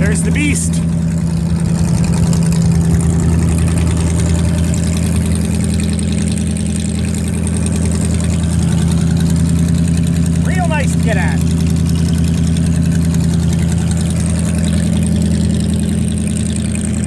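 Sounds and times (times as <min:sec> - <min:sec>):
vee eight engine idling: 0:00.0 - 0:17.0.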